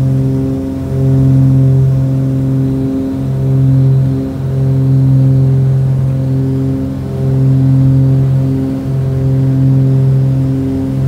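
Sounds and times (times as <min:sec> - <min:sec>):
twin propeller engines droning: 0:00.0 - 0:11.0.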